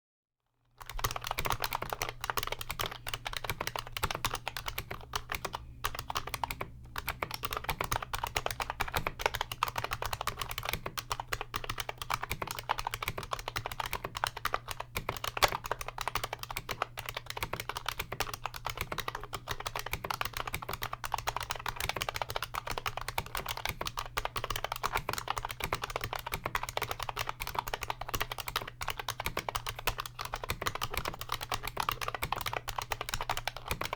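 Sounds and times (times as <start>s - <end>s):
fast typing on keyboard: 0.8s - 33.9s.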